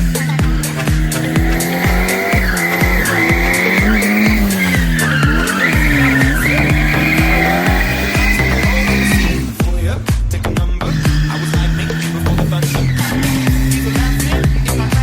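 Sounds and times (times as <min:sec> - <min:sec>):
car engine revving: 0:00.0 - 0:15.0
electronic dance music: 0:00.0 - 0:15.0
tyres squealing: 0:00.0 - 0:15.0.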